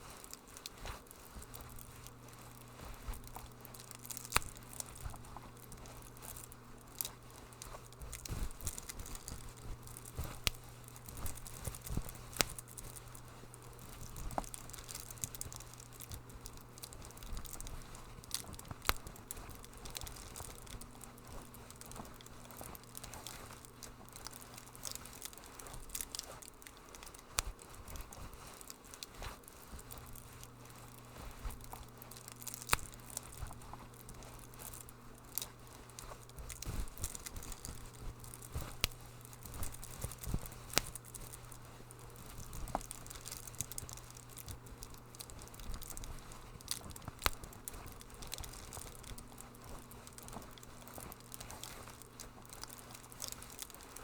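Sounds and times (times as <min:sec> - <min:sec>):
low steady hum: 0:00.0 - 0:54.0
wood fire crackling: 0:00.0 - 0:54.0.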